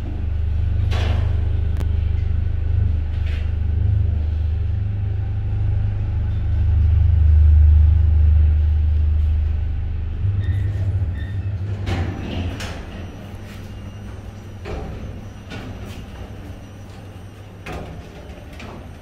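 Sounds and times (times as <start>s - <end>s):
lift travelling low rumble: 0.0s - 19.0s.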